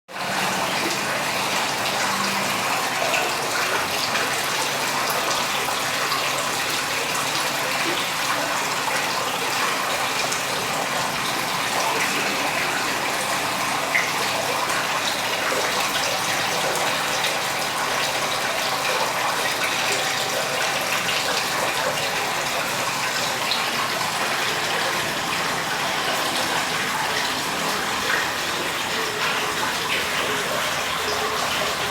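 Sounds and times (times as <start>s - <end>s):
fountain water splashing: 0.1s - 31.9s.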